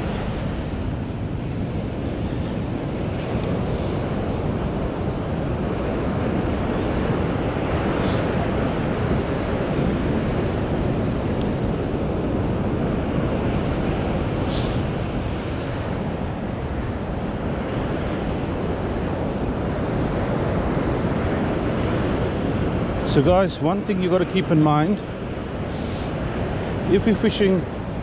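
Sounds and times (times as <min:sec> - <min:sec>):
ocean waves on sandy beach: 0:00.0 - 0:28.0
wind rumbling on microphone: 0:00.0 - 0:28.0.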